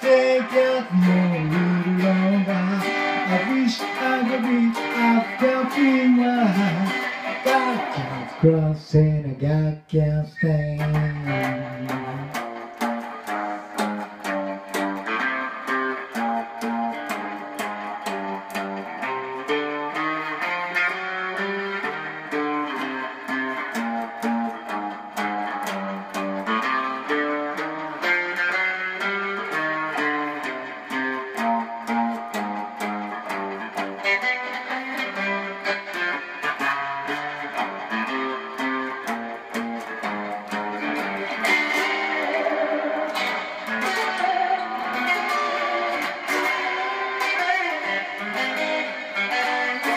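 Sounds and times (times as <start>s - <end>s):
electric guitar picked notes: 0.0s - 49.9s.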